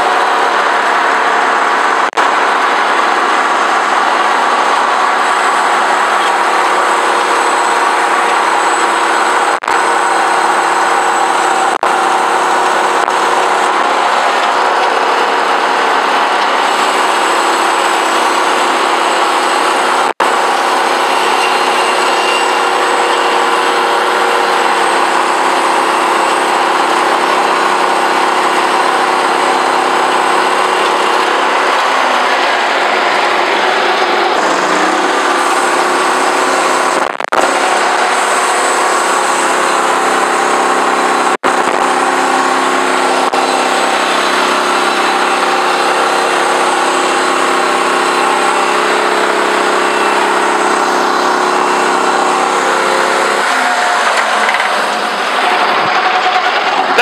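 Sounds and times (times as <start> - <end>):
bandsaw mill running: 0.0 - 57.0
gas engine driving saw blade: 0.0 - 57.0.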